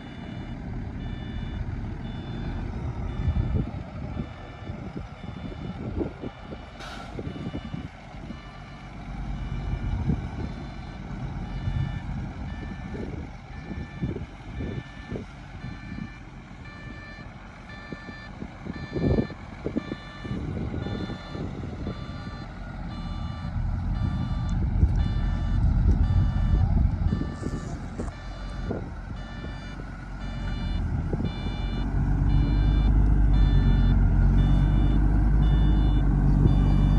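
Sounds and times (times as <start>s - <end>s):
diesel engines rumbling: 0.0s - 36.9s
reversing alarm beeping: 0.0s - 36.9s.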